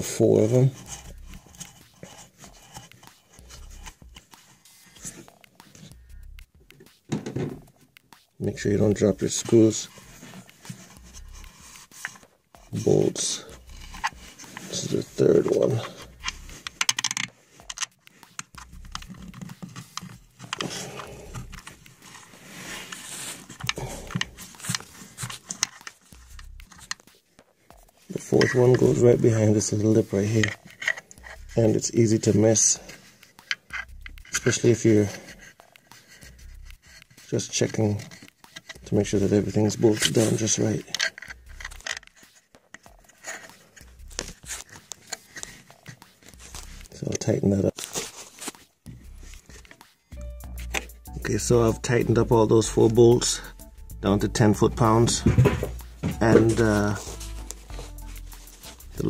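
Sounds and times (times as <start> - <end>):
hand rubbing and scraping: 0.0 - 59.0.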